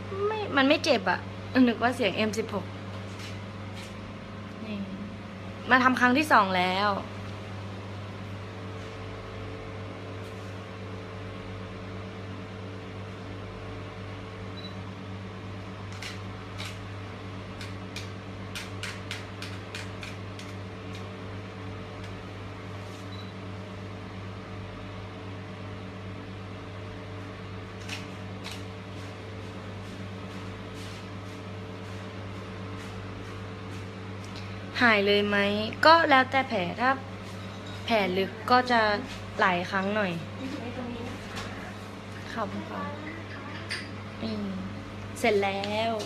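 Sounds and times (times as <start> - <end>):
machine hum: 0.0 - 46.0.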